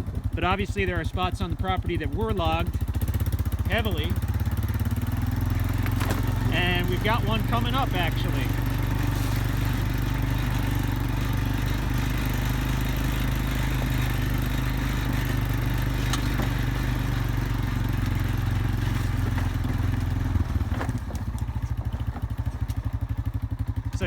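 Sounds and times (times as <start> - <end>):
vehicle engine running: 0.0 - 24.0
clicks and scrapes from dirt road: 2.8 - 24.0.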